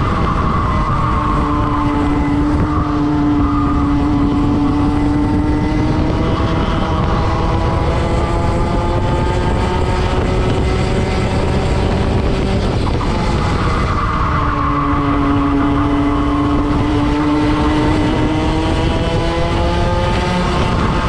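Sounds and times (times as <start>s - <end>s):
kart engine revving: 0.0s - 21.0s.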